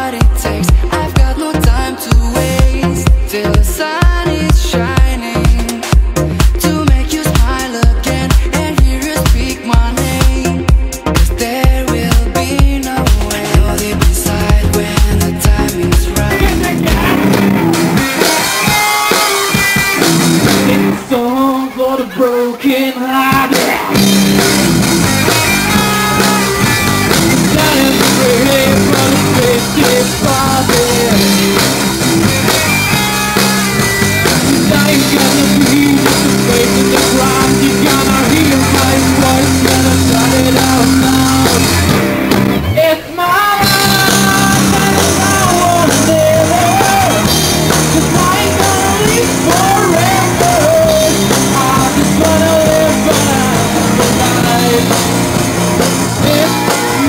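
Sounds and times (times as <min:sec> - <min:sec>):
person singing: 0:00.0 - 0:57.0
rock band playing live: 0:00.0 - 0:57.0.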